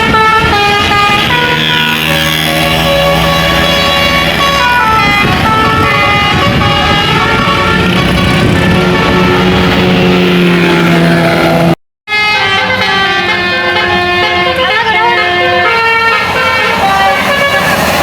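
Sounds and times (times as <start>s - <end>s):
bus engine: 0.0s - 18.0s
musical air horn melody: 0.0s - 18.0s.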